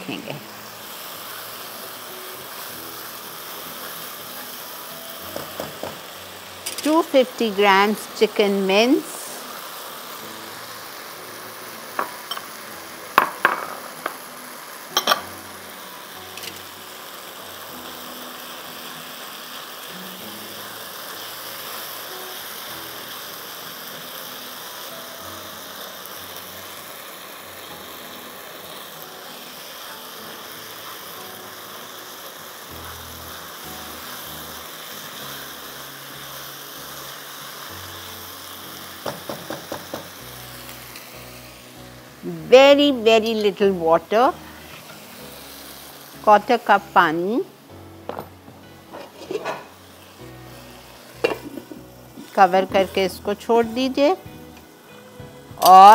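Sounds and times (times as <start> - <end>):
meat sizzling in oil: 0.0 - 55.9.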